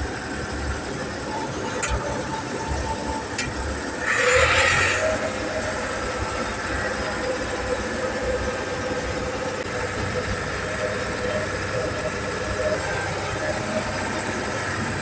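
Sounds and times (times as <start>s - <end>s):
combine engine running: 0.0s - 15.0s.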